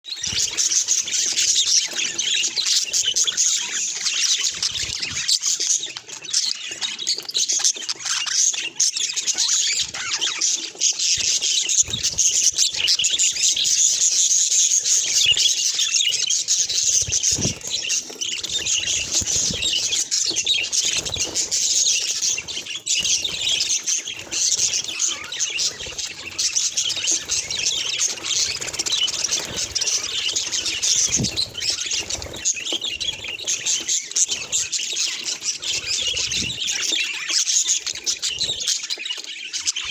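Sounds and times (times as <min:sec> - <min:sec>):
budgerigars chirping and warbling: 0:00.1 - 0:39.9.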